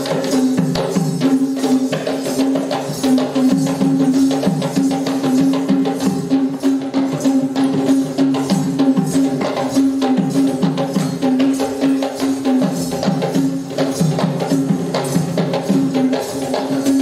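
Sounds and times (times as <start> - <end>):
drums beating fast rhythm: 0.0 - 17.0.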